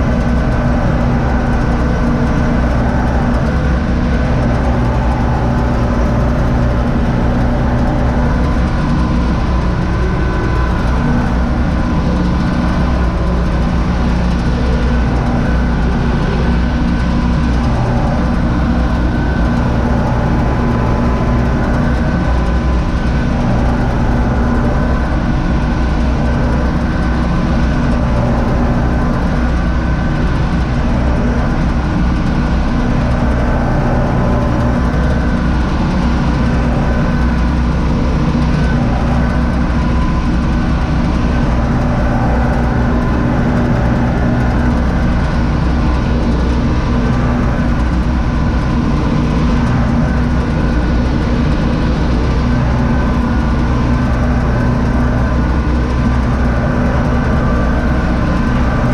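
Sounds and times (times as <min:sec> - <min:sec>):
corn picker mechanism running: 0:00.0 - 0:58.9
tractor diesel engine under load: 0:00.0 - 0:58.9.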